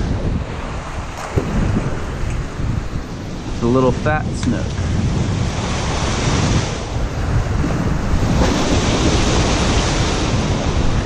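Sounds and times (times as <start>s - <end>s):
ocean surf rushing: 0.0s - 11.0s
wind across microphone: 0.0s - 11.0s.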